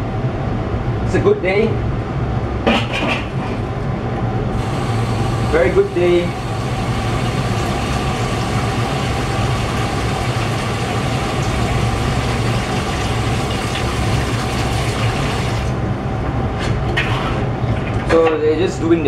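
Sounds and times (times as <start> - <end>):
low mechanical drone: 0.0 - 19.0.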